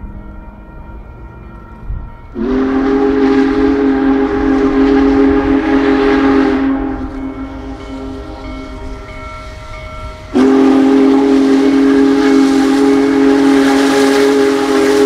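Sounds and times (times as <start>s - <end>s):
steam locomotive whistle: 2.3s - 15.0s.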